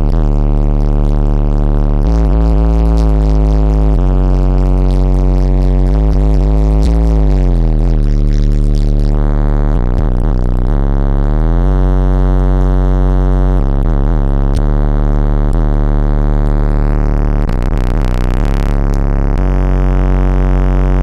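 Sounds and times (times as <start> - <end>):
bass-heavy electronic music: 0.0 - 21.0.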